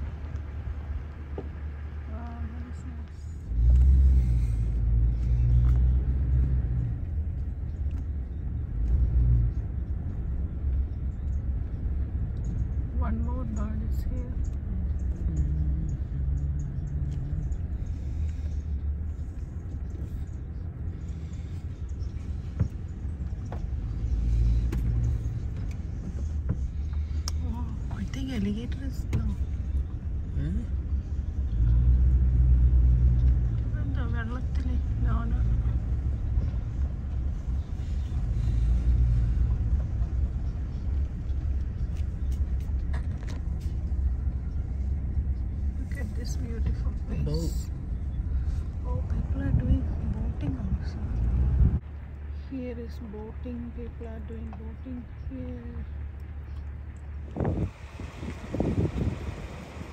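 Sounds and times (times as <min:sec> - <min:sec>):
car engine rumble: 0:00.0 - 0:59.9
tyres on gravel road: 0:00.0 - 0:59.9.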